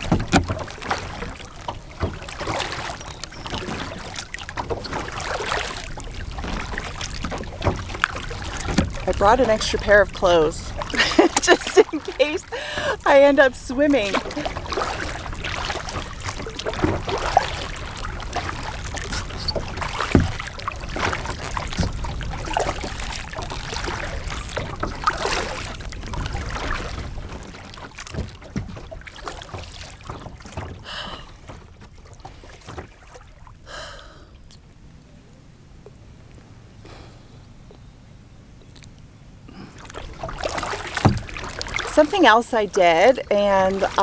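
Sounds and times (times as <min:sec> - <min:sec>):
water dripping off paddle: 0:00.0 - 0:33.5, 0:38.6 - 0:44.0
paddle splashing in water: 0:00.0 - 0:34.6, 0:38.7 - 0:44.0.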